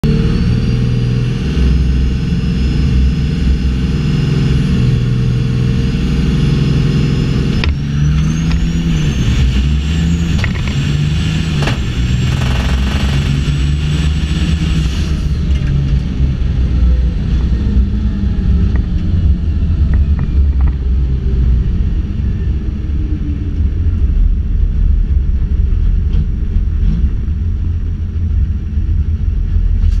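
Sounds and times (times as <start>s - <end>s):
truck engine with high whine: 0.0s - 30.0s.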